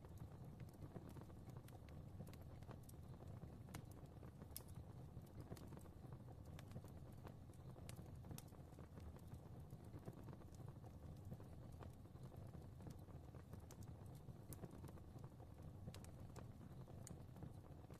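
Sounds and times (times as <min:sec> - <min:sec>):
fire crackling in a fireplace: 0:00.0 - 0:17.9.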